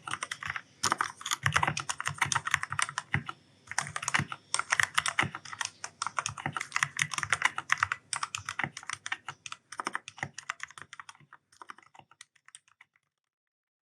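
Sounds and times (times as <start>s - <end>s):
fast typing on mechanical keyboard: 0.0s - 13.2s.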